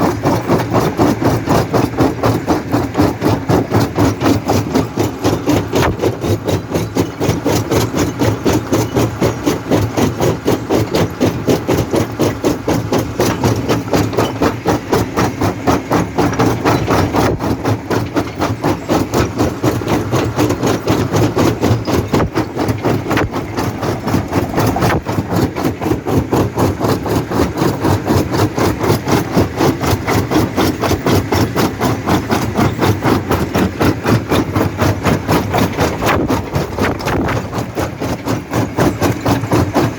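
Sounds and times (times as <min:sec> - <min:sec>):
jaw crusher pounding stone: 0:00.0 - 0:39.9
machine drone: 0:00.0 - 0:39.9.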